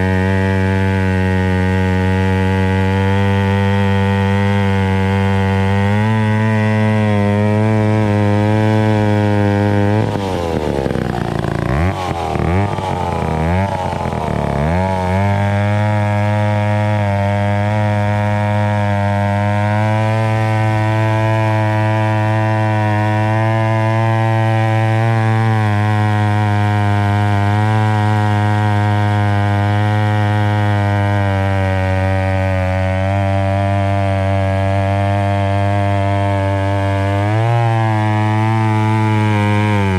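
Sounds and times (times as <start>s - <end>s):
chainsaw running at high speed: 0.0s - 39.9s.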